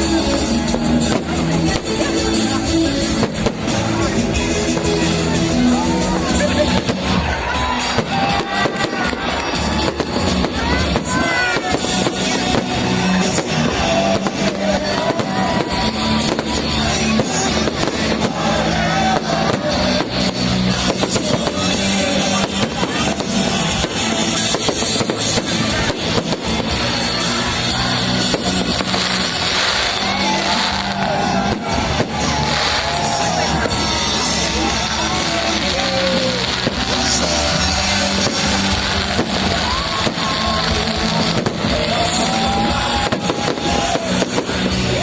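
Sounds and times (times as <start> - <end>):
fireworks bursting and crackling: 0.0 - 45.0
loud music with bass line: 0.0 - 45.0.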